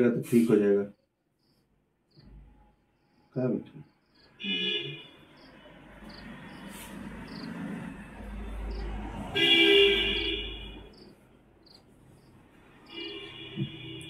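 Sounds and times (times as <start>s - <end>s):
crickets chirping: 0.9s - 9.1s, 9.9s - 13.8s.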